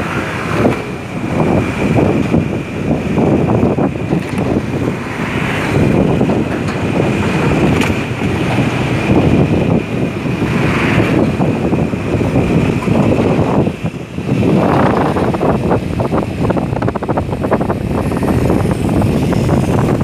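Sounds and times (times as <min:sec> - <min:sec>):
motorcycle engine: 0:00.0 - 0:20.0
road noise: 0:00.0 - 0:20.0
wind buffeting microphone: 0:00.0 - 0:20.0.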